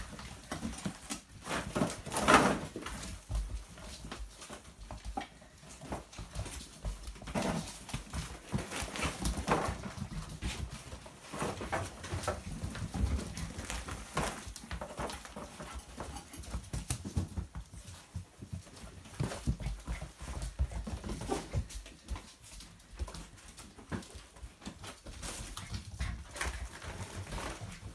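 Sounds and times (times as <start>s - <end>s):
paws tapping on laminate floor: 0.0s - 27.9s.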